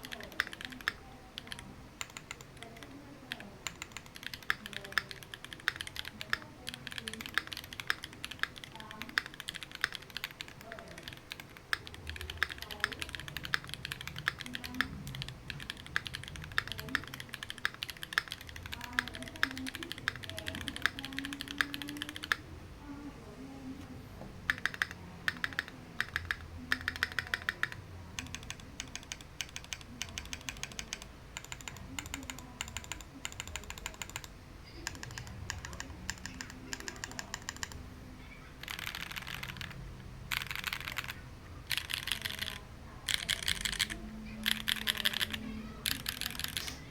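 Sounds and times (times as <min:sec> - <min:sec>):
mechanical keyboard typing: 0:00.0 - 0:22.4, 0:24.4 - 0:37.9, 0:38.6 - 0:46.9.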